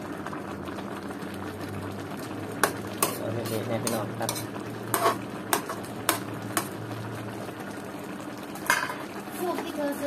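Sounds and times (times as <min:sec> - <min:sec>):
stew simmering hiss: 0:00.0 - 0:10.0.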